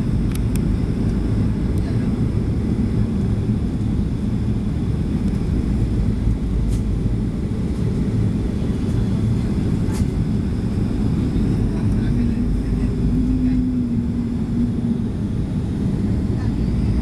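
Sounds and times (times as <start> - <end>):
jet engine rumble in cabin: 0.0 - 17.0.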